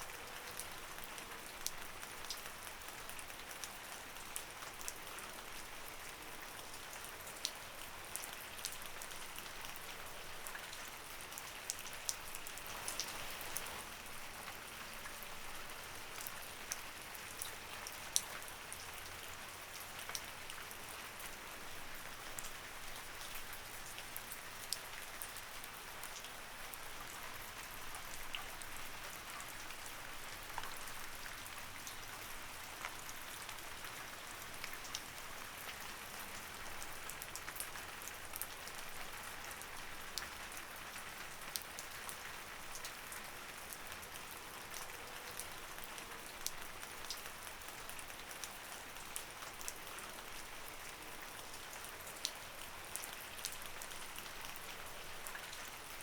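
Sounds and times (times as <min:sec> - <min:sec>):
light rain hiss: 0:00.0 - 0:56.0
raindrops ticking on a surface: 0:00.0 - 0:56.0.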